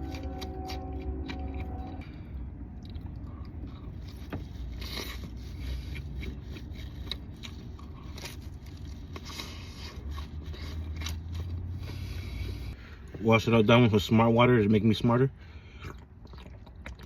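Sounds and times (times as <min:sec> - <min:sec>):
person chewing pizza crust: 0:00.0 - 0:12.8, 0:15.7 - 0:17.0
steady low hum: 0:00.0 - 0:14.1.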